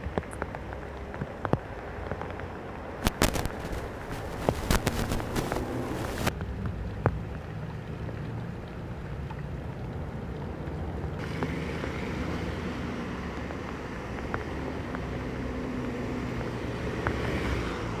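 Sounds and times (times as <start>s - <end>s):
rain drops splashing into puddle: 0.0s - 18.0s
tyres hissing on wet road: 1.7s - 18.0s.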